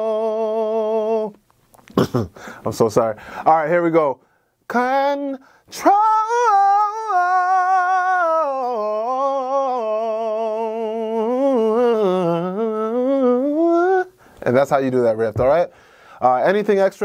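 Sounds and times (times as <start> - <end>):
man singing unaccompanied: 0.0 - 1.4, 4.7 - 17.0.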